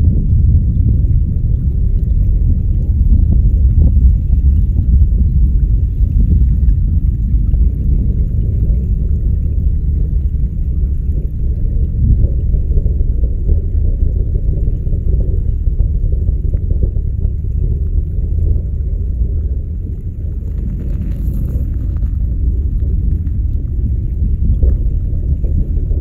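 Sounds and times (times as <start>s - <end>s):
distant rocket engine rumble: 0.0s - 26.0s.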